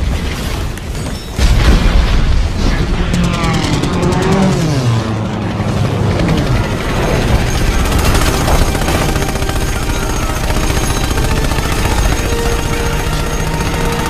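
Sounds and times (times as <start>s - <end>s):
din of battle: 0.0s - 14.0s
rapid machine-gun fire: 1.6s - 14.0s.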